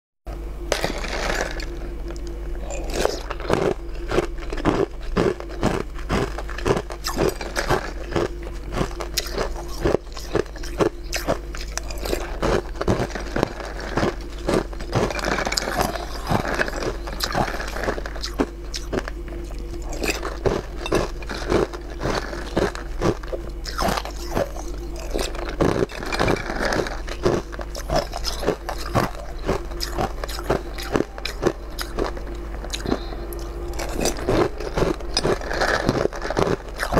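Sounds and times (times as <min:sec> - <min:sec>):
crunchy chewing: 0:00.3 - 0:36.9
steady low hum: 0:00.3 - 0:36.9.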